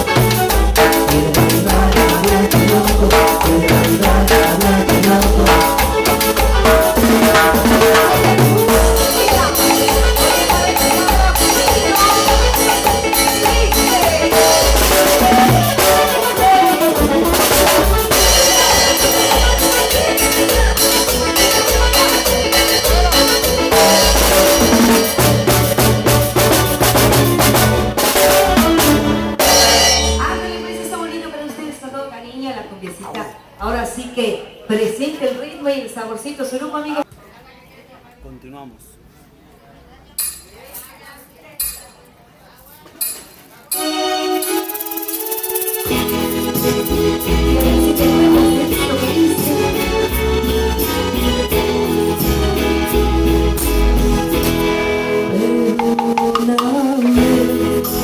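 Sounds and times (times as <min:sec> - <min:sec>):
cumbia band playing: 0:00.0 - 0:34.2, 0:43.0 - 0:58.0.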